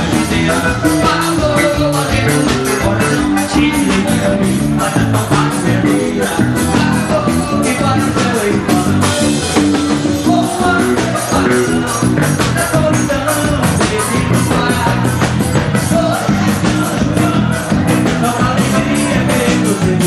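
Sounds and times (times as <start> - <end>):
band music with fast beat: 0.0 - 20.0.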